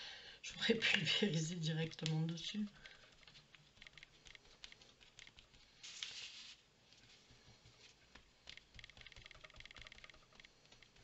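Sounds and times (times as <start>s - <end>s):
foam disc dabbing on paper: 0.6s - 11.0s.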